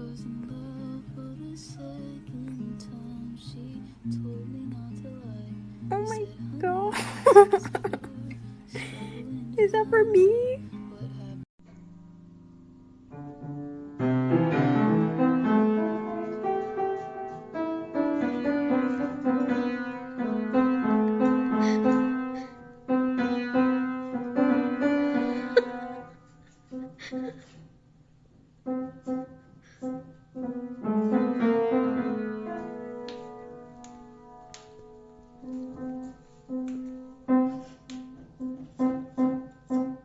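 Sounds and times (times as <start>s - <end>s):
piano melody: 0.0s - 11.5s, 12.3s - 26.2s, 28.6s - 40.0s.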